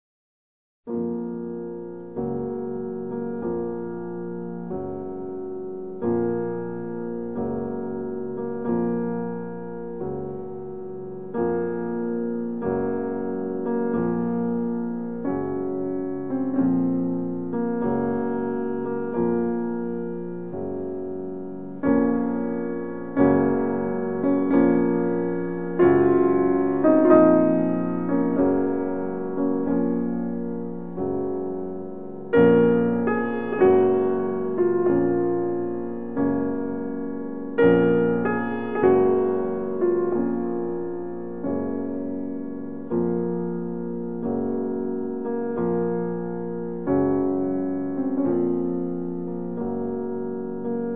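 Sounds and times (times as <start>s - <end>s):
slow solo piano chords: 0.9s - 50.9s.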